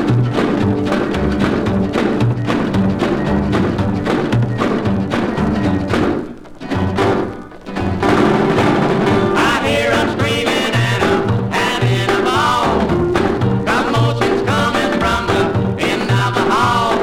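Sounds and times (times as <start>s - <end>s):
country band music: 0.0s - 17.0s.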